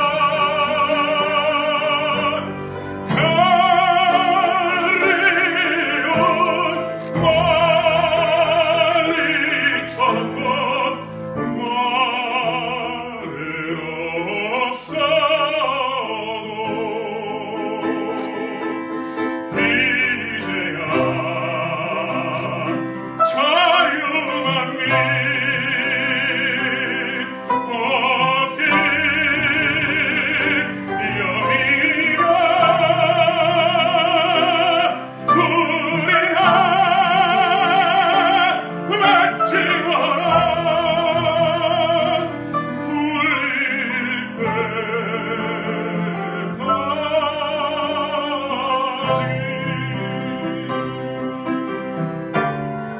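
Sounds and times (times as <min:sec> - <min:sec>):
man singing operatically: 0:00.0 - 0:52.9
piano accompaniment: 0:00.0 - 0:52.9.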